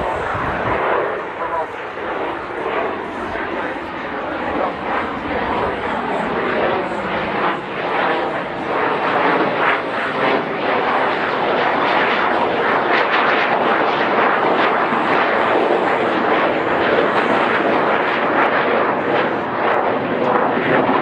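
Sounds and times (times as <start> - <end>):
jet aircraft flying overhead: 0.0 - 21.0.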